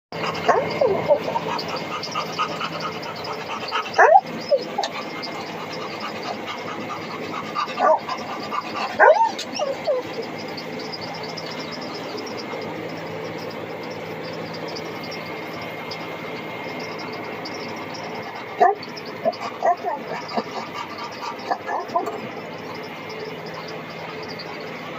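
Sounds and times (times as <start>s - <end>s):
tractor engine humming: 0.1s - 24.9s
dog barking and yipping: 0.2s - 24.9s.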